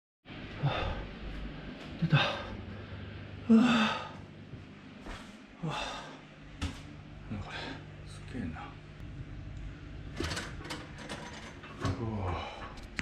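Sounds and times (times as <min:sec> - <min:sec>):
low steady hum: 0:00.3 - 0:13.0.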